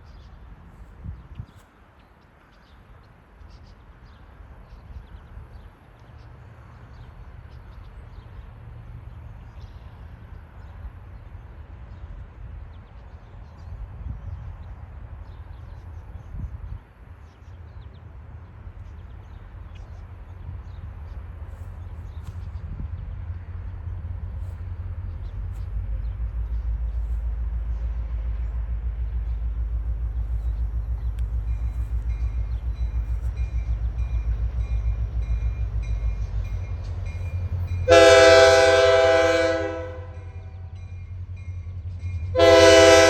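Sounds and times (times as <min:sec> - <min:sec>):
diesel locomotives rumbling: 0:00.0 - 0:43.0
birds chirping: 0:01.4 - 0:42.3.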